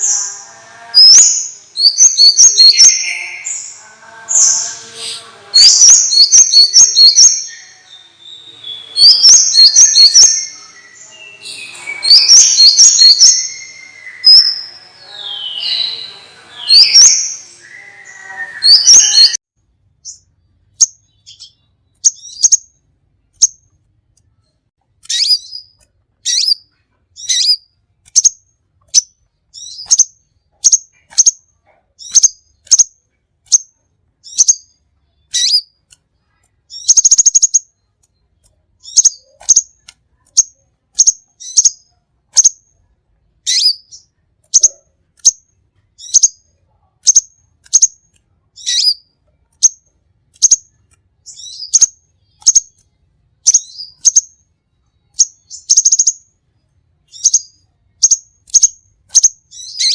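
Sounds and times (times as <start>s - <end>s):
songbirds chirping and whistling: 0.0s - 59.9s.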